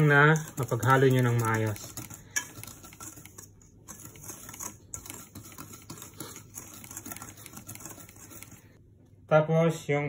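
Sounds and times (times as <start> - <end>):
wire whisk ticking in metal bowl: 0.0 - 8.7.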